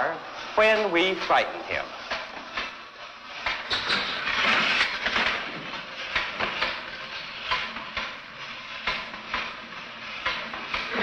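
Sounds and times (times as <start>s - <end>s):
mechanical toy clattering with hiss: 0.0s - 11.0s.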